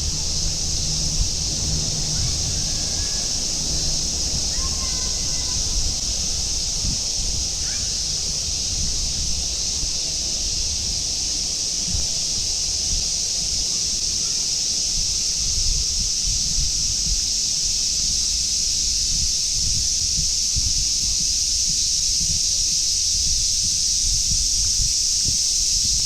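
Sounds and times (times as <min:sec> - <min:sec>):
cicadas droning: 0:00.0 - 0:26.0
wind rumble on microphone: 0:00.0 - 0:26.0.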